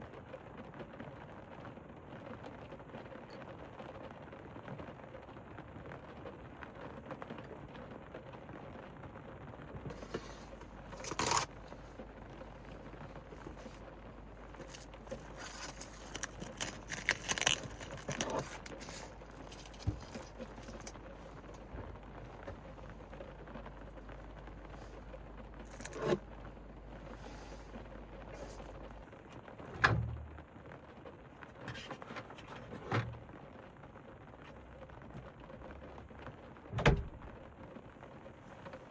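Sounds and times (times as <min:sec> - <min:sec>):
rain pattering on a roof: 0:00.0 - 0:38.9
crinkling and rustling: 0:00.1 - 0:38.9.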